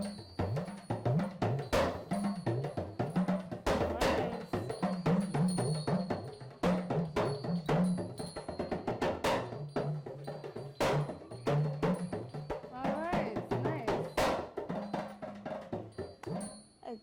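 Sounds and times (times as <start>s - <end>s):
talking drum strikes: 0.0s - 16.6s.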